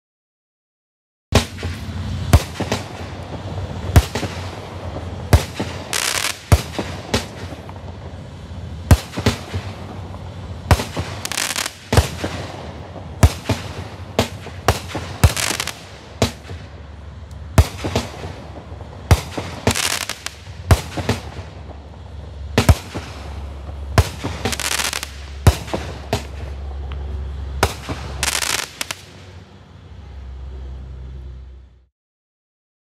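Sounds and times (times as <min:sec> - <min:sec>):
fireworks shots: 0:01.3 - 0:29.6
fireworks hissing crackle: 0:01.4 - 0:31.7.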